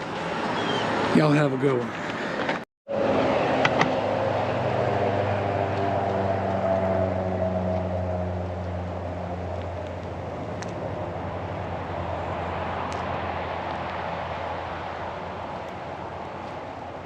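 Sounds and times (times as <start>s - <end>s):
steady rushing noise: 0.0s - 17.0s
vehicle engine humming: 0.0s - 17.0s.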